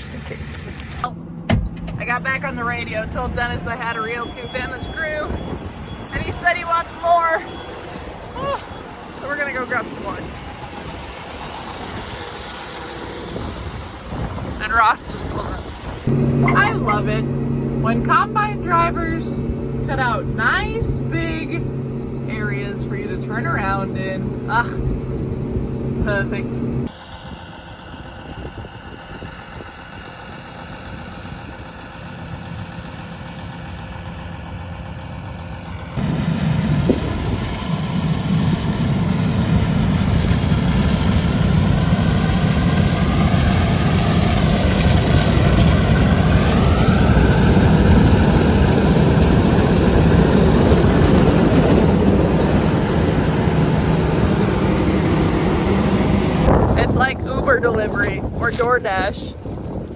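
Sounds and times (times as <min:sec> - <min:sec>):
heavy farm vehicle engine: 0:00.0 - 0:59.9
wavering whine: 0:00.0 - 0:59.9.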